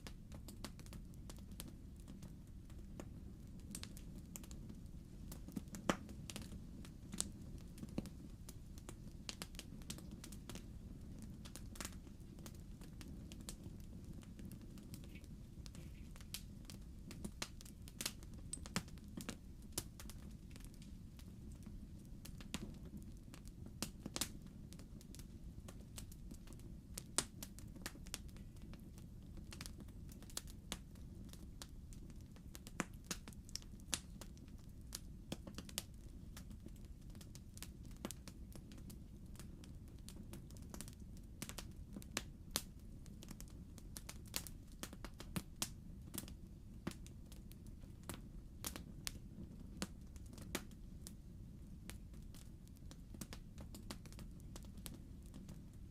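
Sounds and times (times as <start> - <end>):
fire popping and snapping: 0.0 - 55.9
logs crackling in fireplace: 0.0 - 55.9
low rumble of fire: 0.0 - 55.9.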